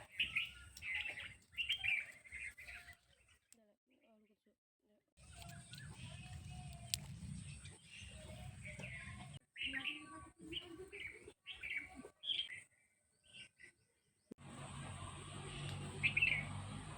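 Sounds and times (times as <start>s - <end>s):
birds chirping: 0.0s - 3.6s, 5.2s - 16.9s.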